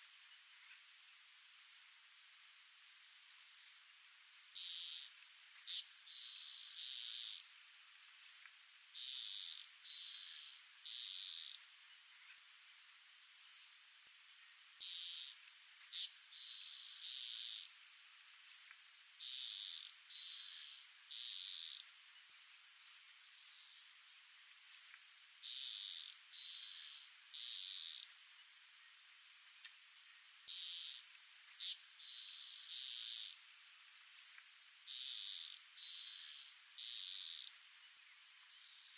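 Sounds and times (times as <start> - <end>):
buzzy cricket calls: 0.0 - 38.9
high pulsing insect trill: 0.8 - 38.9.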